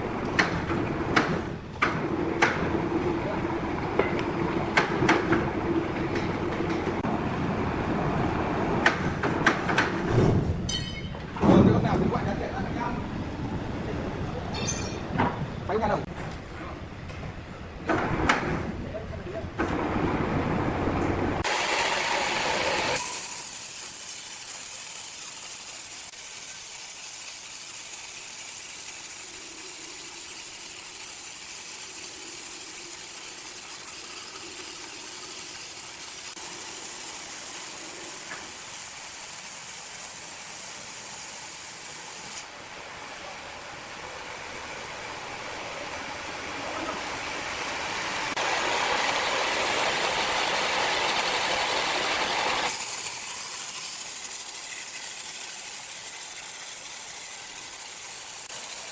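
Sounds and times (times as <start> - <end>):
sawmill machinery running: 0.0 - 16.1, 19.6 - 58.9.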